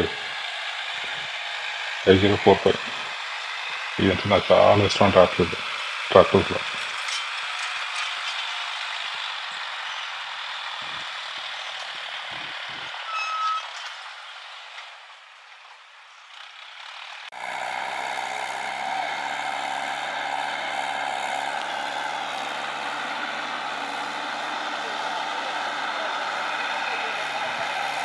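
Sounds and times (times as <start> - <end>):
tractor diesel engine: 0.0 - 28.0.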